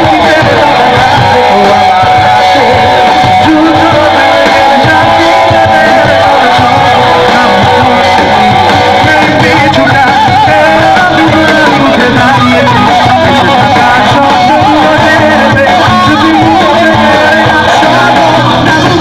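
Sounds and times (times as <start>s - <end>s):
electric guitar: 0.0s - 19.0s
rock band playing live: 0.0s - 19.0s.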